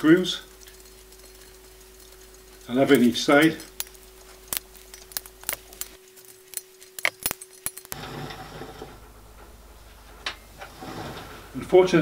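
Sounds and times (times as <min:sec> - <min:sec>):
faint steady hum: 0:00.0 - 0:12.0
soft steady hiss: 0:00.0 - 0:12.0.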